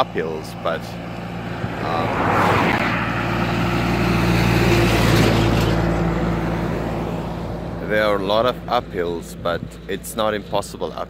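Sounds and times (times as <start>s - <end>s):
vehicle passing by: 0.0s - 10.0s.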